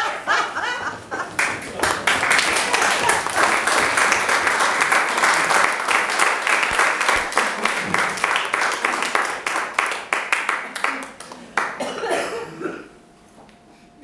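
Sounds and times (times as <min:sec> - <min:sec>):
audience applause: 0:00.0 - 0:12.2.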